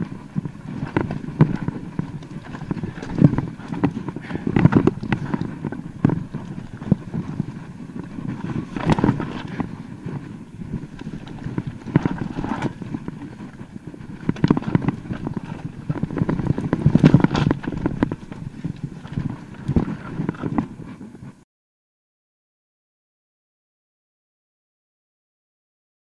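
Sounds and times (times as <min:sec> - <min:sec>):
bike tyres drumming over stones: 0:00.0 - 0:20.8
bike knocks and rattles: 0:00.0 - 0:21.0.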